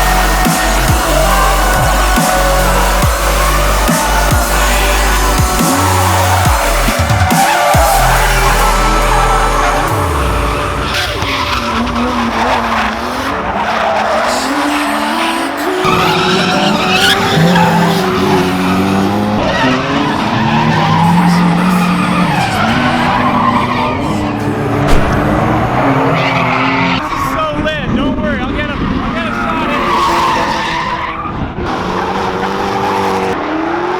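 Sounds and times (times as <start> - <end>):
car engines revving: 0.0 - 33.9
tyres skidding and squealing: 0.0 - 33.9.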